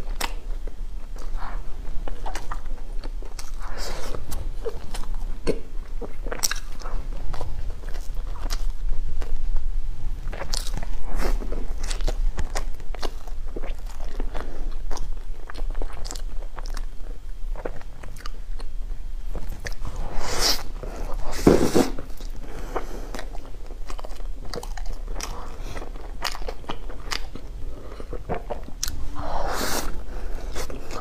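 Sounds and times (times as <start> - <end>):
chewing with mouth clicks: 0.0 - 9.4, 10.2 - 19.9, 22.0 - 31.0.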